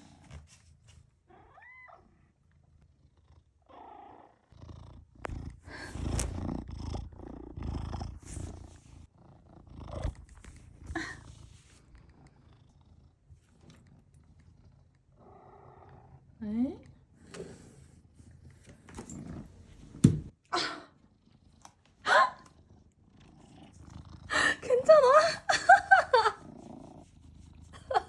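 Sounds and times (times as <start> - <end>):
cat purring: 1.4 - 20.0, 20.9 - 28.0.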